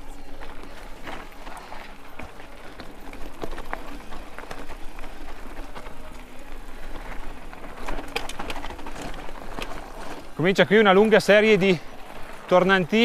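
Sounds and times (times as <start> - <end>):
bike clicks and rattles: 0.0 - 13.0
tyres crunching on dirt trail: 0.0 - 13.0.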